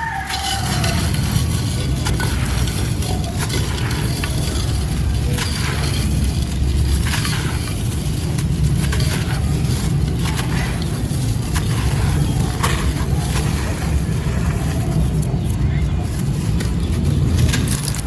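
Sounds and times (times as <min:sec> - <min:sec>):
concrete crumbling and crunching: 0:00.0 - 0:18.0
steady low rumble: 0:00.0 - 0:18.0.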